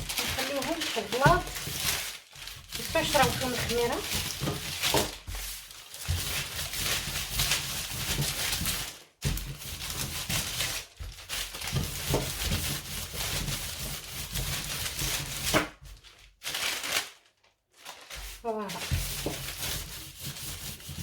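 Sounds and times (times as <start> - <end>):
hands working dough: 0.0 - 17.1, 17.8 - 21.0.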